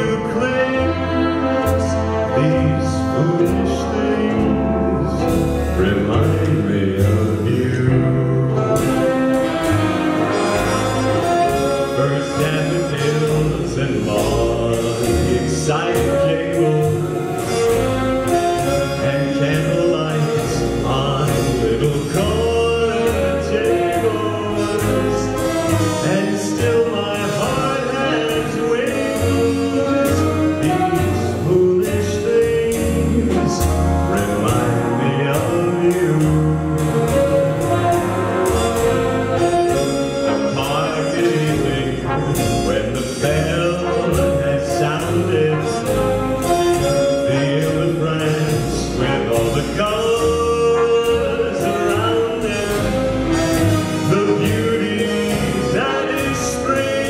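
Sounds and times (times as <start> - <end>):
man singing: 0.0 - 9.5, 10.2 - 38.0, 39.4 - 57.0
big band music: 0.0 - 57.0.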